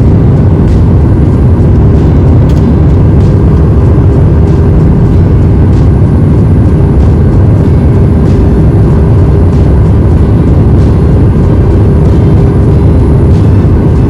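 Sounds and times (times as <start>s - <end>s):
airliner jet engine rumble: 0.0s - 14.0s
steady hum: 0.0s - 14.0s.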